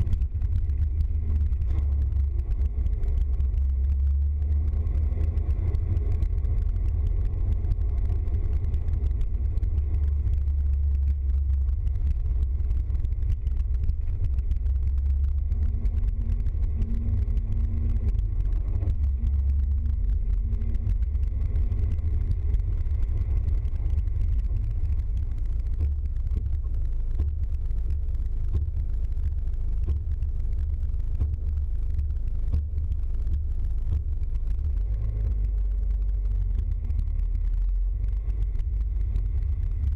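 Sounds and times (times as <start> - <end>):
road noise: 0.0 - 39.9
vehicle engine rumble: 0.0 - 39.9.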